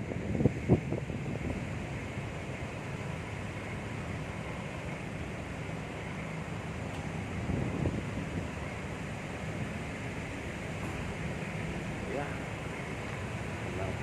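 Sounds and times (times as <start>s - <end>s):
ferry engines rumbling: 0.0s - 14.0s
wind buffeting microphone: 0.0s - 14.0s.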